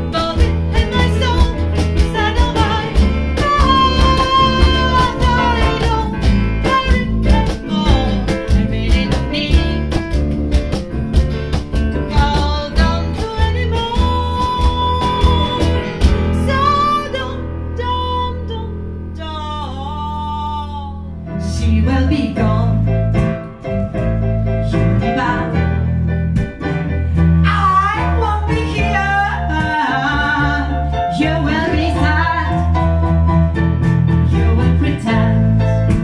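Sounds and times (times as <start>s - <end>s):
woman singing: 0.0s - 10.2s, 12.0s - 23.0s, 24.7s - 25.8s, 27.4s - 33.1s, 34.3s - 36.0s
acoustic guitar: 0.0s - 36.0s
low bass line: 0.0s - 36.0s.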